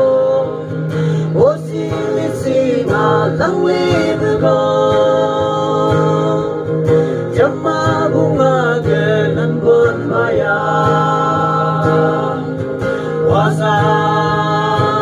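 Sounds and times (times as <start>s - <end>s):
acoustic guitar: 0.0s - 15.0s
person singing: 0.0s - 15.0s.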